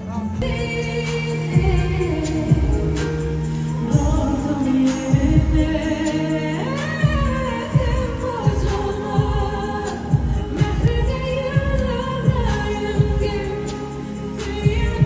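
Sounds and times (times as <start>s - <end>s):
person singing pop song: 0.0s - 15.0s
steady drum beat: 0.4s - 15.0s.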